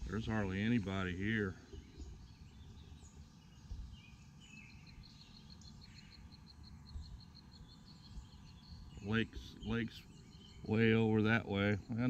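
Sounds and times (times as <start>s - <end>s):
steady high repeated chirp: 1.5s - 12.0s.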